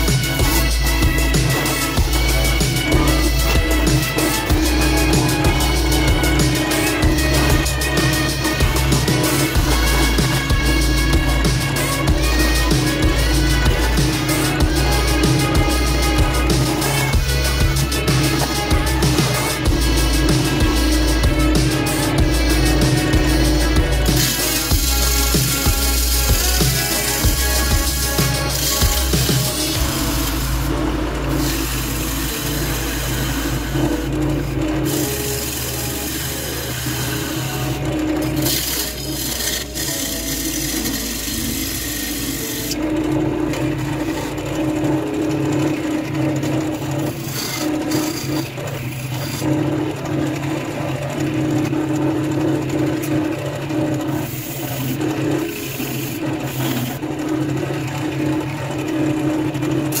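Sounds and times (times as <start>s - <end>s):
gouge scraping spinning wood: 0.0s - 60.0s
lathe motor humming: 0.0s - 60.0s.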